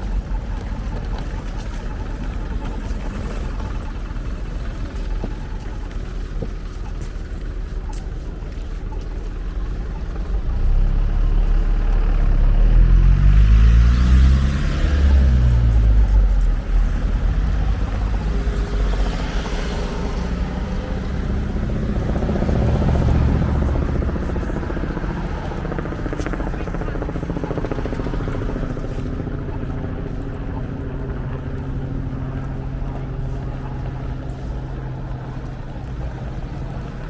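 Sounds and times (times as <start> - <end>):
motor vehicles passing by: 0.0 - 37.0.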